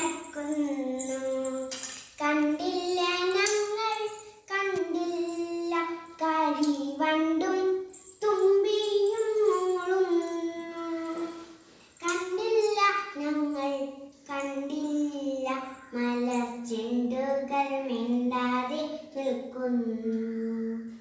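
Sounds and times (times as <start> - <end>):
girl singing unaccompanied: 0.0 - 21.0.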